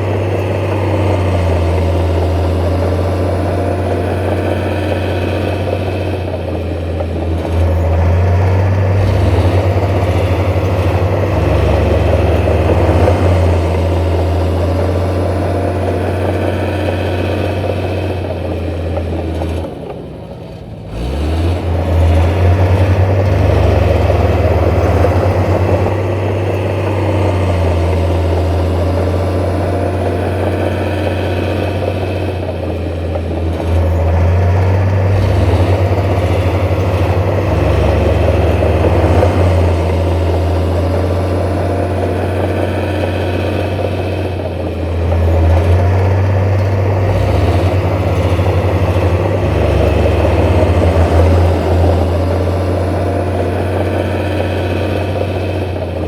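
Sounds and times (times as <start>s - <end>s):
heavy diesel engine working: 0.0s - 56.0s.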